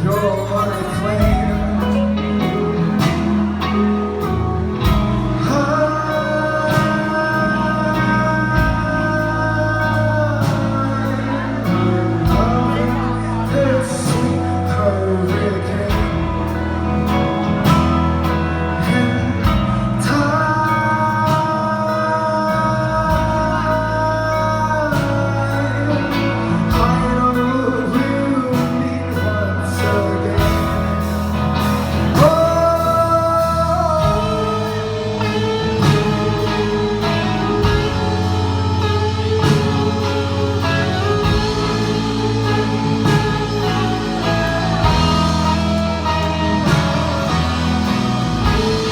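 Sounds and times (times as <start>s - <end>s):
drums: 0.0s - 48.9s
guitar: 0.0s - 48.9s
man singing: 0.0s - 48.9s.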